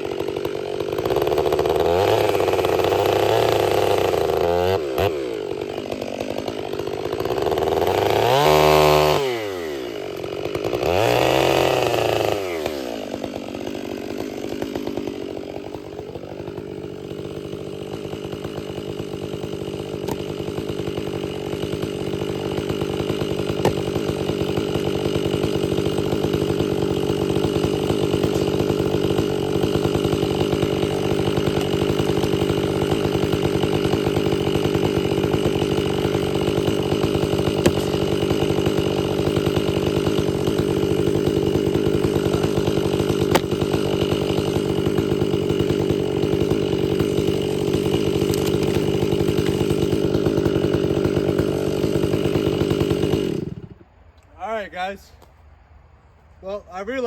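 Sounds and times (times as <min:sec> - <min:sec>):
chainsaw revving and cutting log: 0:00.0 - 0:55.1, 0:56.4 - 0:57.0.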